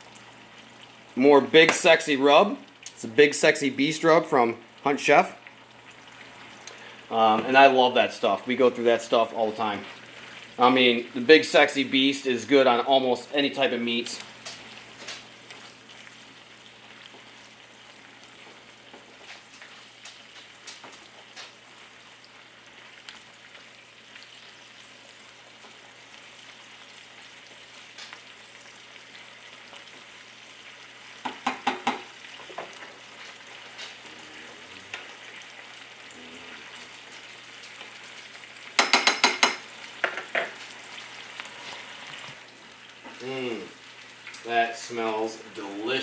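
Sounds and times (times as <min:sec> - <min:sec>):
meat sizzling in hot oil: 0:00.0 - 0:46.0.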